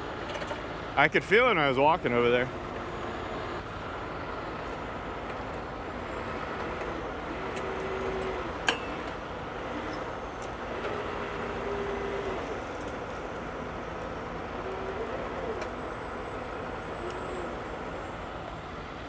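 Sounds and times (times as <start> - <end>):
vehicle and road noise: 0.0 - 19.0.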